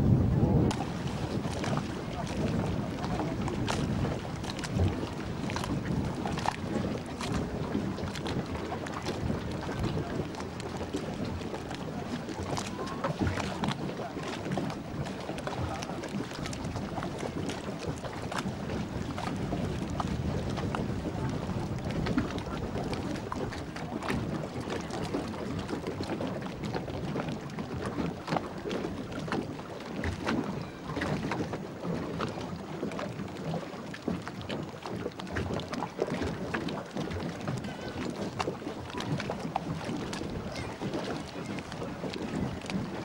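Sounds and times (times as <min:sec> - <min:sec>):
water rushing past boat: 0:00.0 - 0:43.0
water splashing against hull: 0:00.0 - 0:43.0
wind buffeting microphone: 0:00.0 - 0:43.0.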